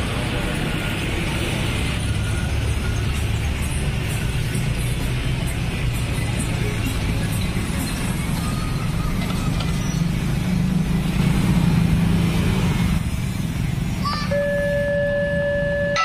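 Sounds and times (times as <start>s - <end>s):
light street traffic: 0.0s - 16.0s
motor scooter engines: 0.0s - 16.0s.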